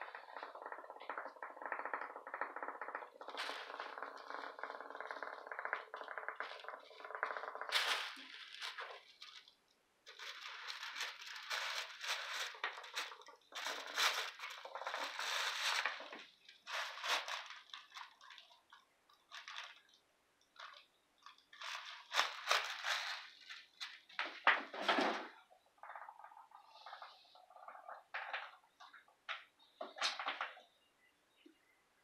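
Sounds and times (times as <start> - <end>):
plastic bag crinkling: 0.0 - 29.0.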